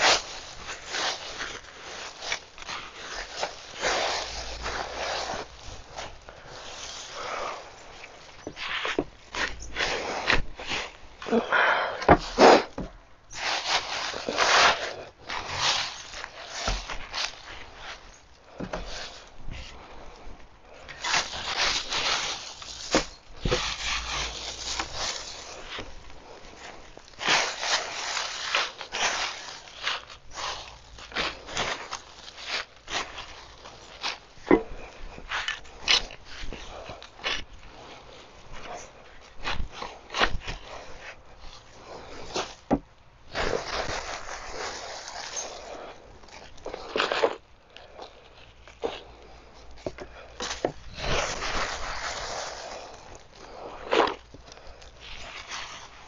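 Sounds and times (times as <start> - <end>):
dry leaves rustling: 0.0 - 56.0.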